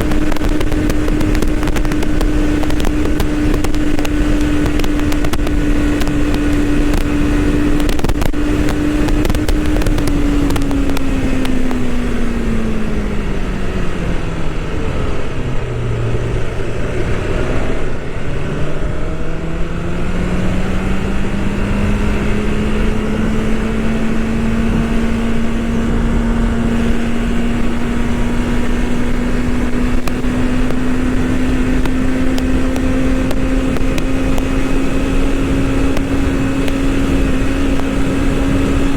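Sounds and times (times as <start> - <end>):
motorcycle engine: 0.0 - 38.9
wind on microphone: 0.0 - 38.9.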